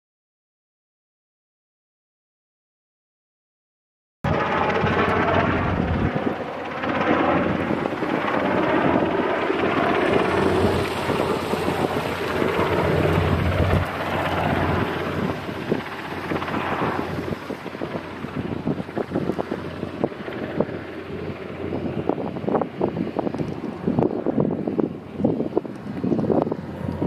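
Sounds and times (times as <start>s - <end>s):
helicopter rotor and turbine: 4.2s - 27.0s
wind on microphone: 4.3s - 27.0s.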